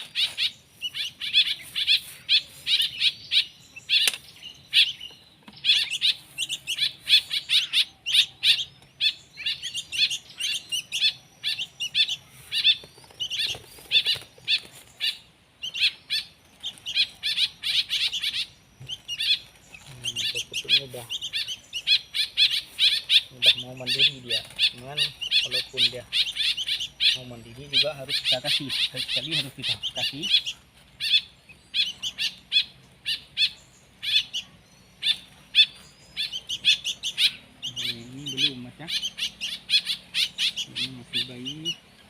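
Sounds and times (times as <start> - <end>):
baby songbirds chirping: 0.0 - 42.0.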